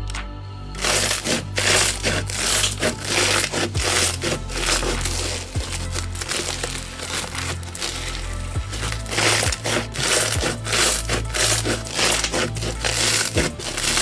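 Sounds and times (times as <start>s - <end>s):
slime crunching and popping: 0.8s - 14.0s.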